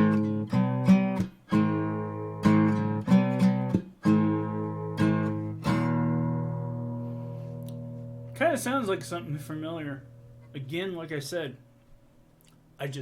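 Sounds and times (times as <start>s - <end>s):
acoustic guitar chords strummed: 0.0s - 12.3s.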